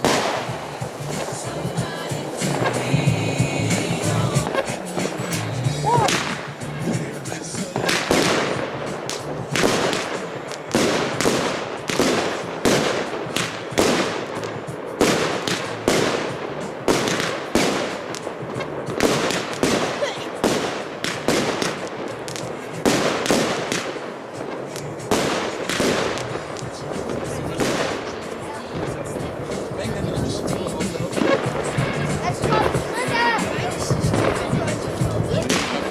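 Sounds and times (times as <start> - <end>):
firework crackle: 0.0 - 35.9
firework shots: 0.0 - 35.9.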